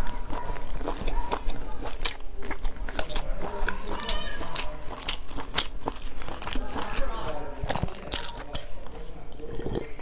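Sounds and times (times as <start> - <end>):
wet chewing and biting: 0.0 - 10.0.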